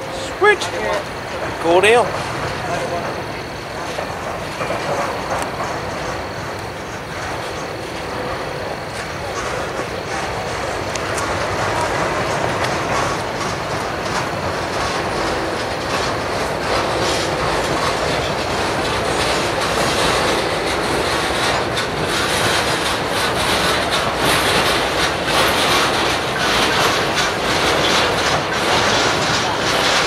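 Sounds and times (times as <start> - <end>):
freight train rolling past: 0.0 - 30.0
wheels clanking over rail joints: 0.0 - 30.0.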